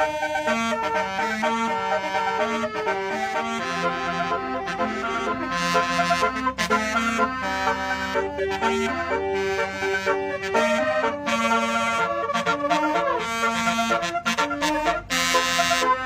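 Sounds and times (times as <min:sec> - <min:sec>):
musical air horn melody: 0:00.0 - 0:16.0.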